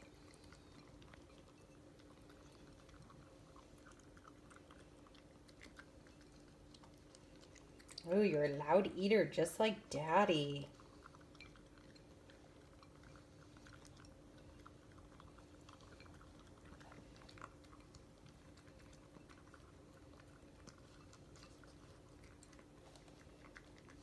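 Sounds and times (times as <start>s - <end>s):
puppy chewing and crunching: 0.0s - 24.0s.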